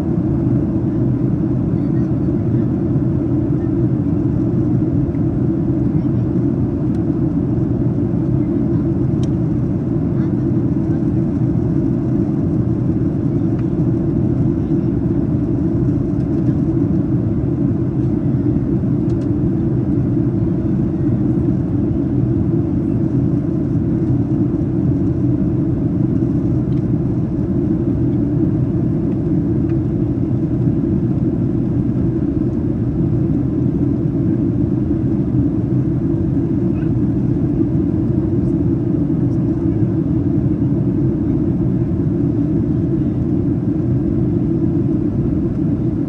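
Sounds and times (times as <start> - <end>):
airplane cabin engine rumble: 0.0 - 46.0.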